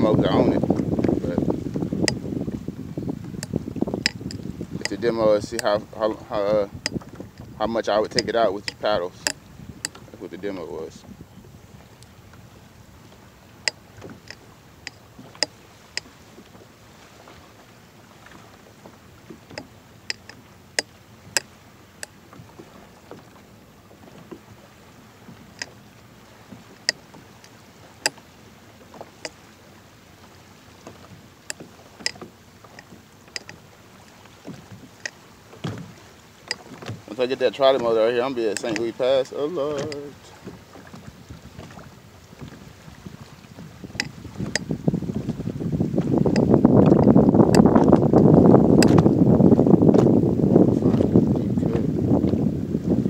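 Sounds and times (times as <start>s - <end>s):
water wash: 0.0s - 11.1s, 11.7s - 53.0s
waves slapping kayak hull: 0.0s - 53.0s
wind: 0.0s - 53.0s.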